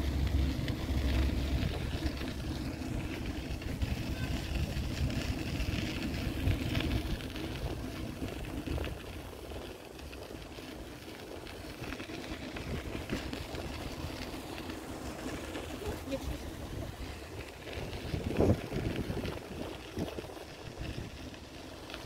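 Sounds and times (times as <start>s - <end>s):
low engine rumble: 0.0s - 22.0s.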